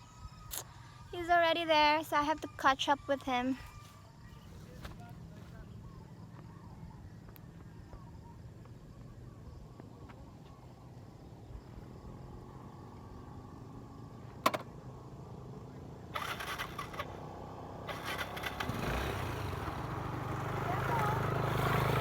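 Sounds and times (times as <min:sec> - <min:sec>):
distant motorcycle engines humming: 0:00.0 - 0:22.0.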